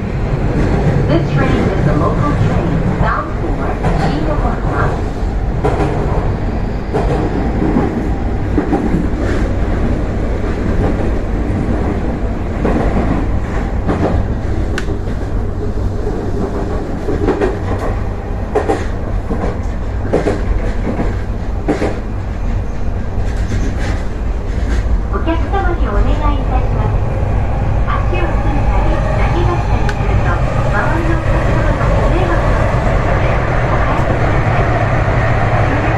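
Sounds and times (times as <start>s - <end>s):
train rumble and hum: 0.0s - 35.9s.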